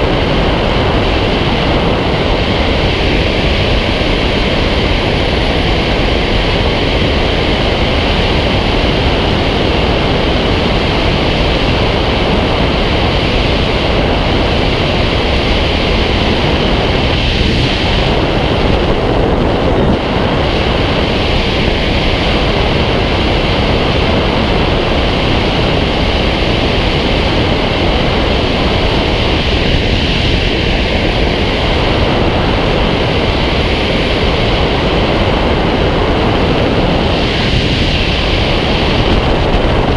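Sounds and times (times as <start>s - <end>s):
wind buffeting camera: 0.0s - 39.9s.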